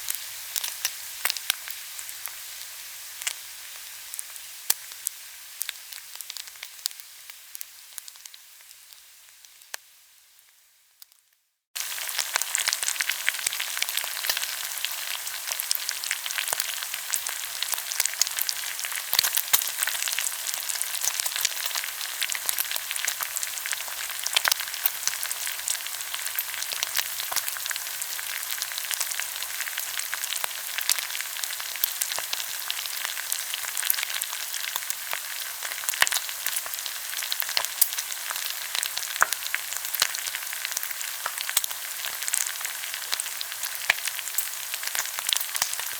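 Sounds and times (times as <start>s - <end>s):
meat sizzling on a grill: 0.0s - 45.9s.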